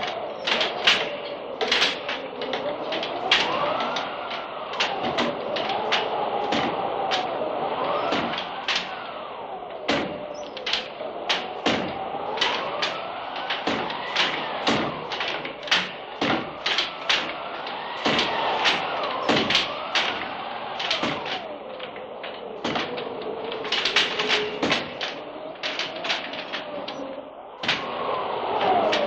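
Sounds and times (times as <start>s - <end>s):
rapid knocking and clattering: 0.0s - 29.0s.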